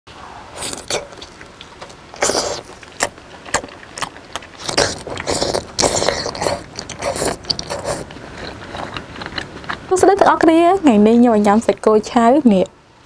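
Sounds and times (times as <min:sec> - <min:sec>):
smacking and sucking noises: 0:00.5 - 0:11.8
wet chewing and mouth sounds: 0:00.5 - 0:12.0.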